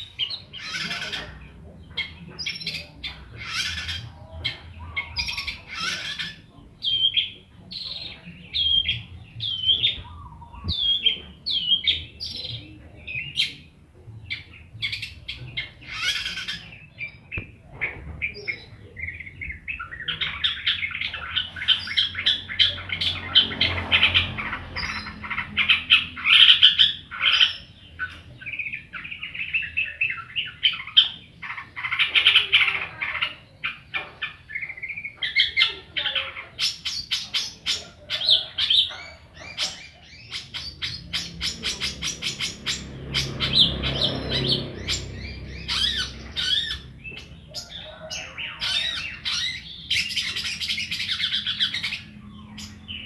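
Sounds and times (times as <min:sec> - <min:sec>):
bird singing chattering song: 0:00.0 - 0:53.0.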